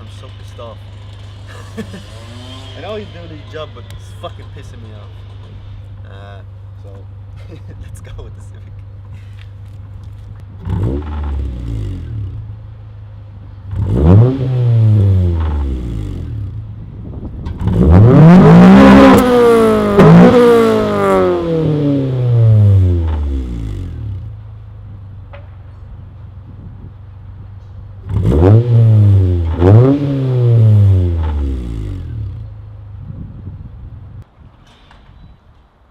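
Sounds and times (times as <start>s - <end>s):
car engine idling and revving: 0.0s - 34.3s.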